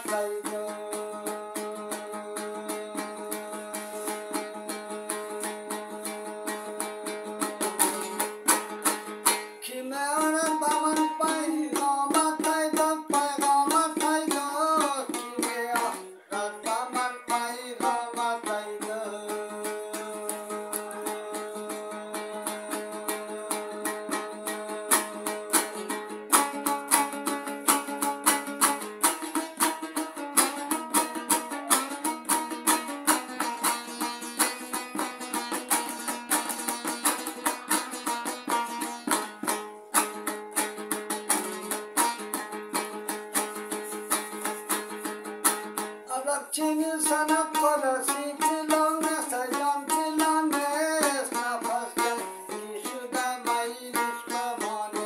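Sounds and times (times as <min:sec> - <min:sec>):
man singing: 0:00.0 - 0:08.7, 0:09.3 - 0:38.0, 0:46.1 - 0:55.0
lute strummed fast: 0:00.0 - 0:55.0.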